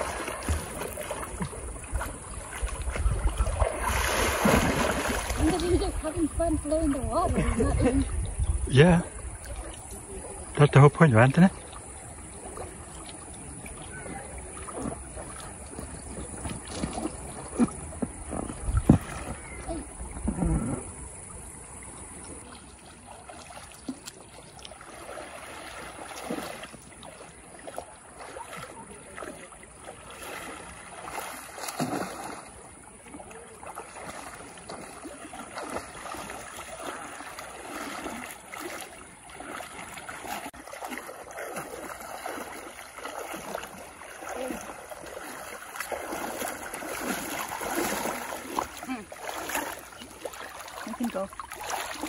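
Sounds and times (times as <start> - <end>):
shallow river water splashing: 0.0 - 52.0.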